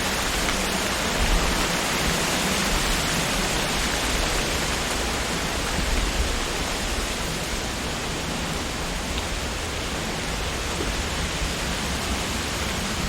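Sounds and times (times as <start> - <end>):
low rumble of gusts: 0.0 - 13.0
wind rushing through leaves: 0.0 - 13.0.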